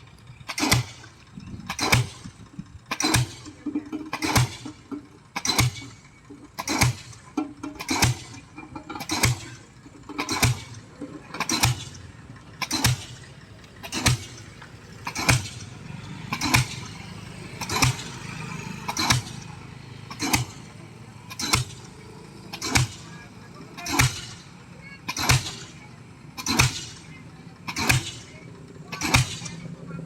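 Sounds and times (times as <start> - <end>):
machine engine running: 0.0 - 30.0
pile driver hammer blows: 0.4 - 29.7.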